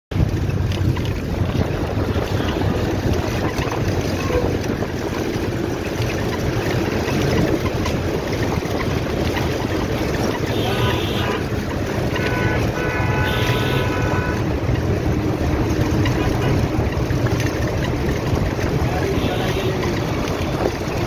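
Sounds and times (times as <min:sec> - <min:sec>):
vehicle road noise: 0:00.1 - 0:21.0
wind buffeting microphone: 0:00.1 - 0:21.0.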